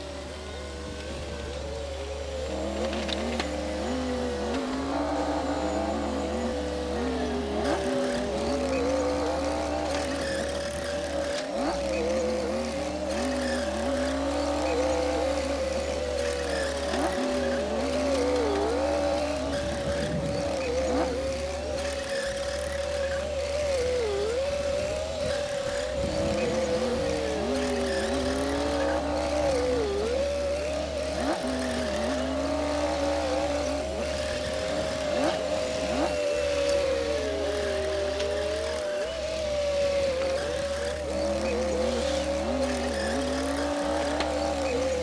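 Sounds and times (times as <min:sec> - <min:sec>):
bulldozer diesel engine under load: 0:00.0 - 0:45.0.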